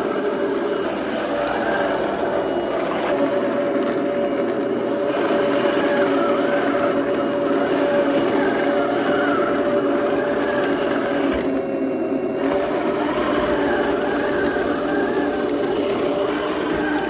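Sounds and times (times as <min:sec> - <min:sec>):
toy tank motors whining: 0:00.0 - 0:17.0.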